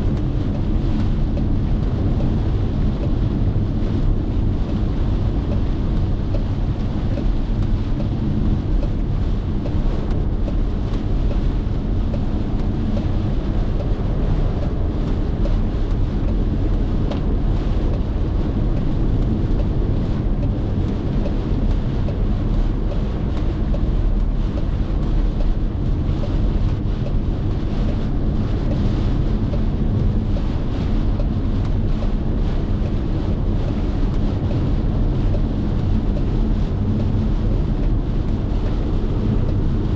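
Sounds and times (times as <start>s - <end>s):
road and engine rumble: 0.0s - 39.9s
wind noise: 0.0s - 39.9s.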